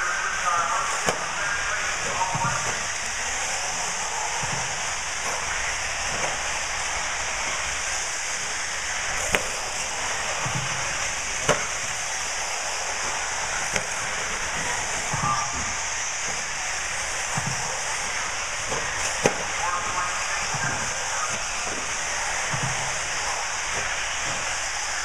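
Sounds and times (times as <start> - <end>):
rc car motors and tyres hissing: 0.0 - 25.0.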